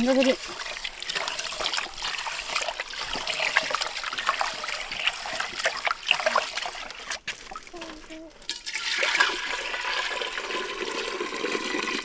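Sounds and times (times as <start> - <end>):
water trickling and dripping: 0.0 - 10.3.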